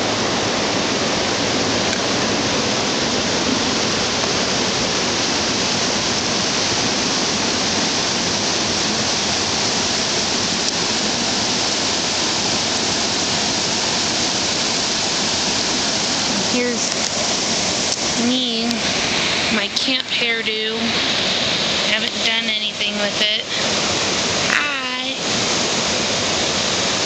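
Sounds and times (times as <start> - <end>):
river rapids rushing over boulders: 0.0 - 27.0.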